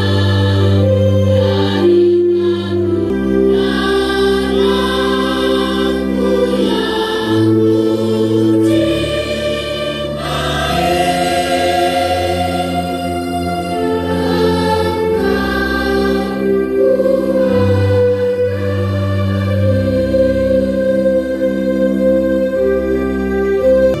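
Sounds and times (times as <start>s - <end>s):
school choir singing: 0.0s - 23.3s.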